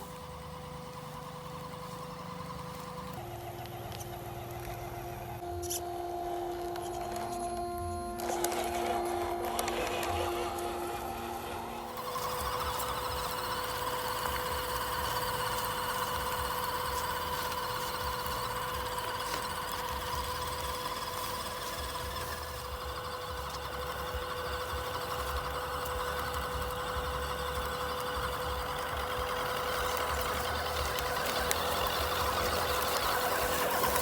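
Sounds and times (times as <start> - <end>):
rc car motor whining: 0.0 - 34.0.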